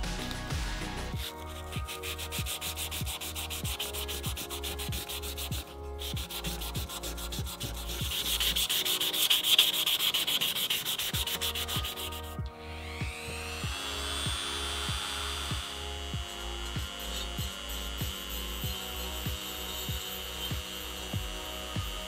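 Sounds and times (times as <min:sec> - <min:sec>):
background music with steady beat: 0:00.0 - 0:22.0
rhythmic sanding strokes: 0:00.0 - 0:22.0.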